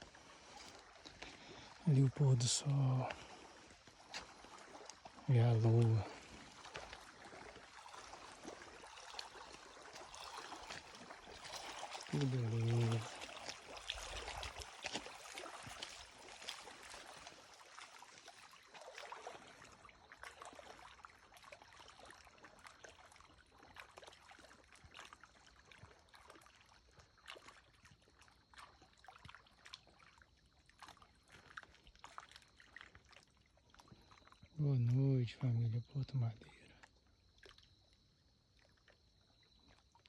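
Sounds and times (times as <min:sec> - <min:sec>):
water lapping and trickling: 0:00.0 - 0:40.0.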